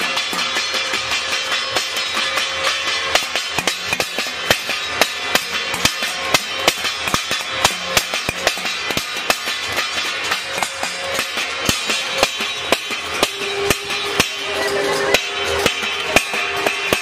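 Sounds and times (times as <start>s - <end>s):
ringing din of clanging: 0.0s - 17.0s
rolling pin striking metal plate: 0.0s - 17.0s.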